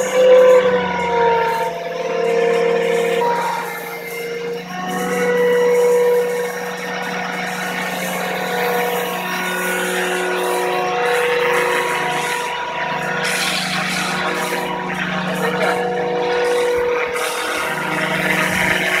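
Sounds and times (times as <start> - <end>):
model helicopter motor whine: 0.0 - 19.0
rotor wash noise: 0.0 - 19.0.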